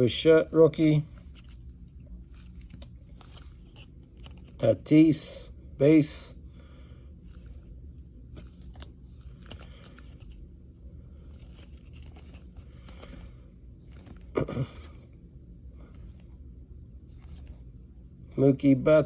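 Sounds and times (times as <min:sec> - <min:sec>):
trading cards rustling: 0:00.1 - 0:05.4, 0:07.1 - 0:15.2, 0:15.8 - 0:19.0.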